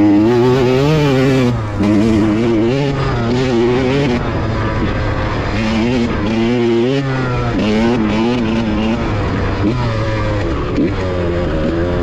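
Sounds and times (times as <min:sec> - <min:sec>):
two-stroke dirt bike engine revving: 0:00.0 - 0:12.0.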